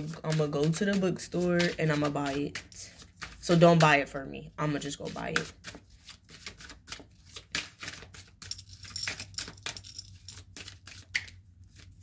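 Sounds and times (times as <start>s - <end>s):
cards being shuffled: 0.0s - 3.9s, 4.9s - 9.7s, 10.3s - 12.0s.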